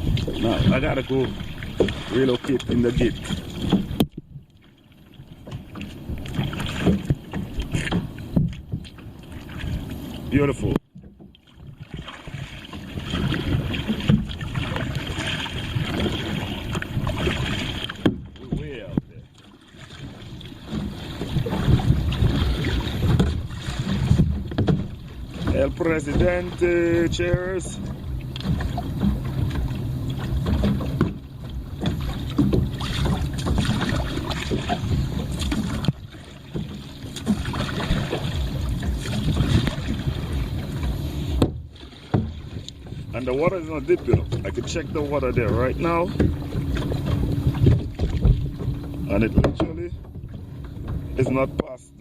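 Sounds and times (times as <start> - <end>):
wind buffeting microphone: 0.0 - 4.5, 11.6 - 19.3, 20.0 - 52.0
water sloshing around a kayak: 0.0 - 52.0.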